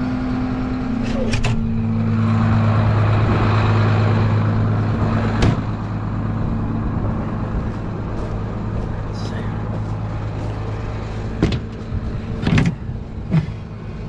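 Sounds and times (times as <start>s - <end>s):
tractor engine hum: 0.0s - 14.0s.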